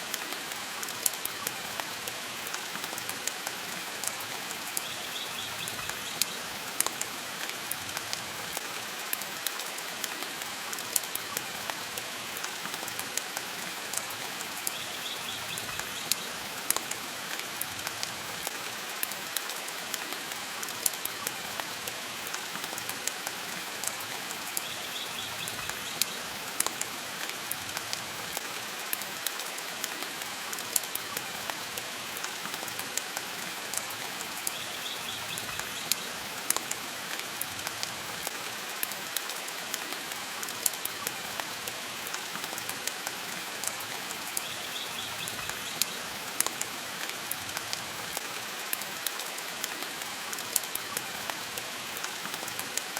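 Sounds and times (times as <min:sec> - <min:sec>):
rain hissing: 0:00.0 - 0:52.9.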